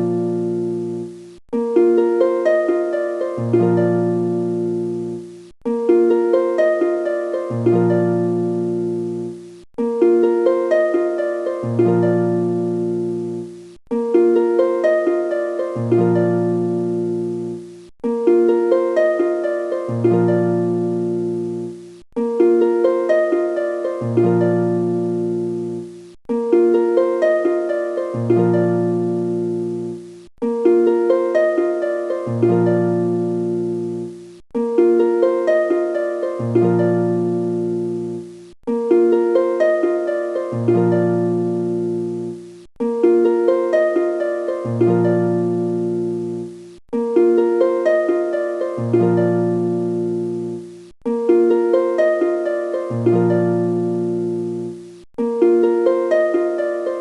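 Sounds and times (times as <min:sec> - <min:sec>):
plucked-string melody: 0:00.0 - 0:57.0.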